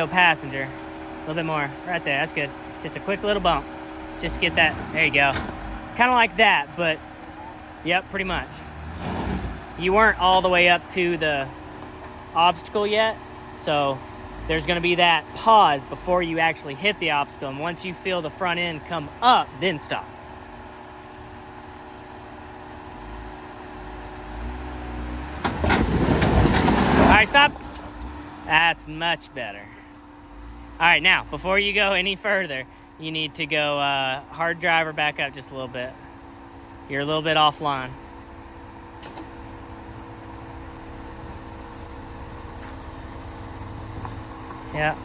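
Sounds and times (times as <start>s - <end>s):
pickup truck engine revving: 0.0s - 45.0s.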